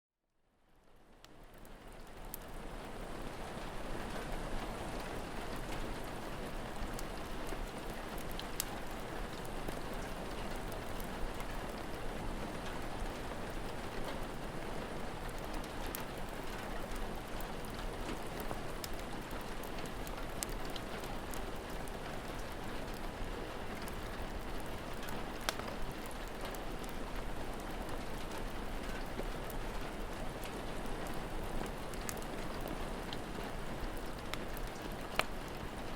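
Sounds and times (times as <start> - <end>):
steady rain falling: 0.6 - 35.9
wood fire crackling and popping: 1.2 - 2.6, 5.4 - 35.9.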